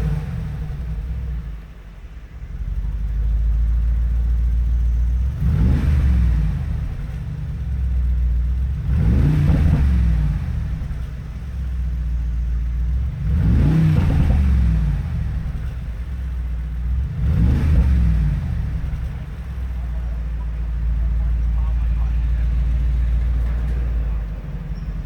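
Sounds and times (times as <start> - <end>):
car exhaust idling and revving: 0.0 - 25.0.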